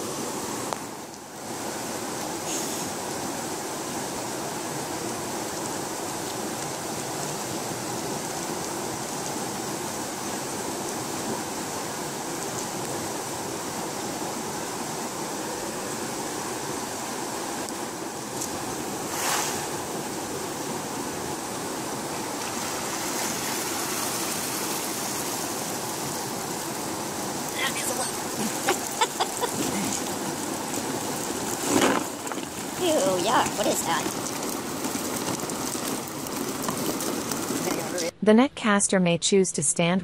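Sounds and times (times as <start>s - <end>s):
water rushing through dam gates: 0.0s - 38.1s.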